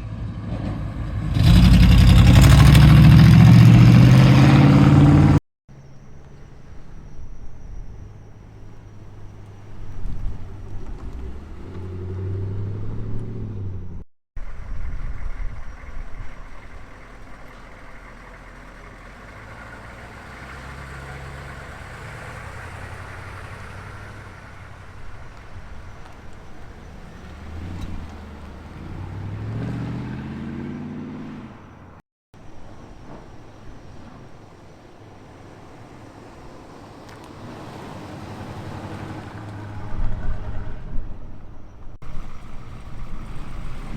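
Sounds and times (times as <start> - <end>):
car accelerating away: 0.0 - 14.0, 15.2 - 31.9, 35.7 - 40.3, 42.0 - 43.9
car engines revving: 0.0 - 14.0, 15.6 - 32.0, 35.0 - 43.9.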